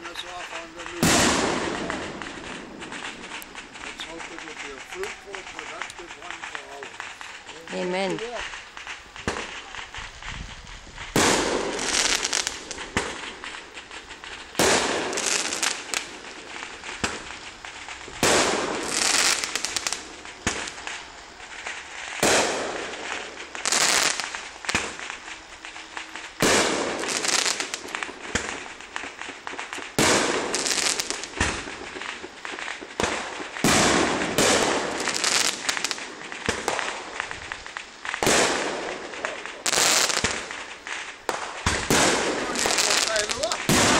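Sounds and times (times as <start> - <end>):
fireworks bangs crackling: 0.0 - 43.9.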